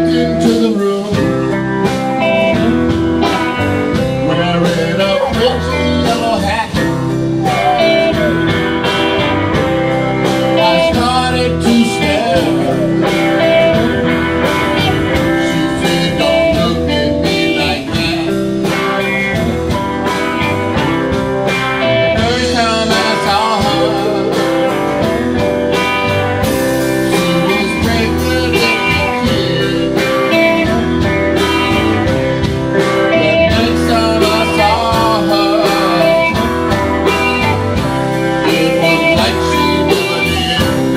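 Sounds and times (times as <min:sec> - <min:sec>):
drum kit: 0:00.0 - 0:40.9
electric bass: 0:00.0 - 0:40.9
electric guitars: 0:00.0 - 0:40.9.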